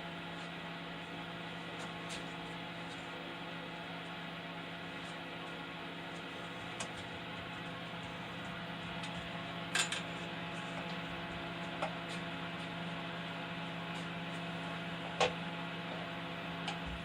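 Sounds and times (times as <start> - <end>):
shop machinery humming: 0.0 - 17.0.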